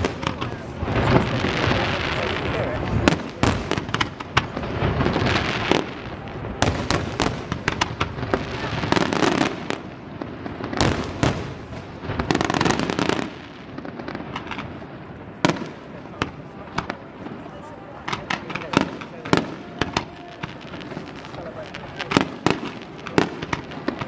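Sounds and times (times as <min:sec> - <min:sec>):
fireworks bangs: 0:00.0 - 0:24.0
fireworks hissing: 0:00.0 - 0:24.0.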